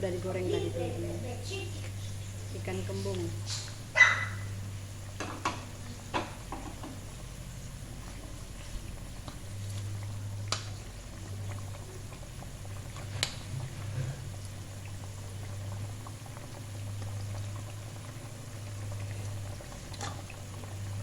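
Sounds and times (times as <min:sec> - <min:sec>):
low steady hum: 0:00.0 - 0:21.0
sauce bubbling in a pan: 0:00.0 - 0:21.0.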